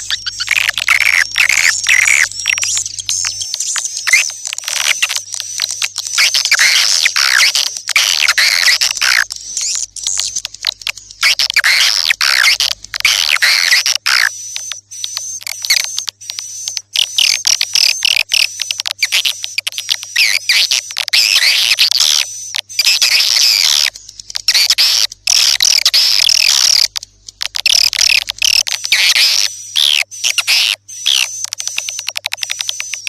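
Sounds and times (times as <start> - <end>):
rapid dry clicks: 0.0 - 33.0
swiftlets twittering: 0.0 - 33.0.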